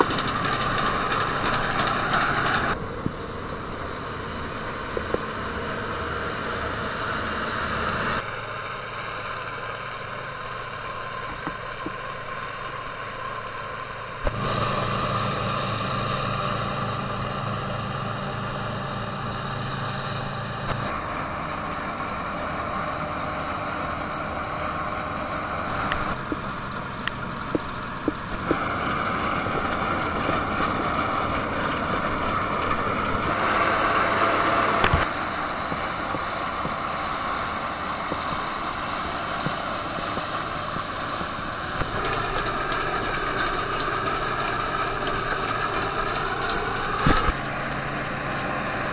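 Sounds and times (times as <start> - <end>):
combine harvester diesel engines: 0.0 - 48.9.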